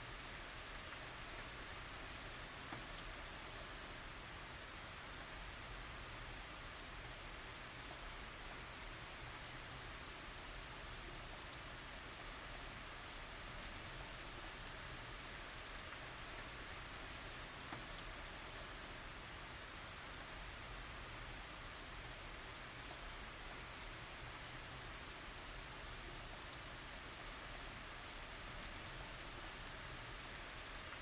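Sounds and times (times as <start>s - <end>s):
raindrops pattering on surfaces: 0.0s - 31.0s.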